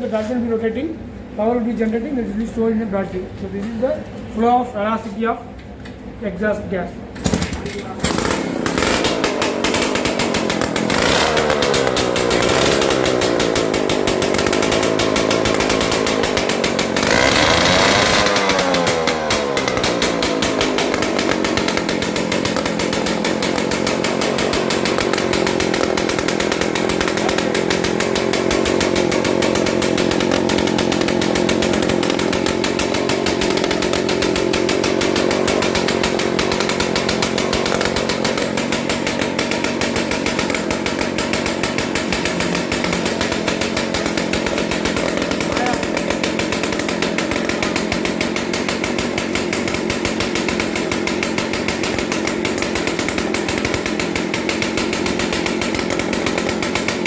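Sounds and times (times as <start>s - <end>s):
two-stroke engine revving: 7.2s - 57.0s.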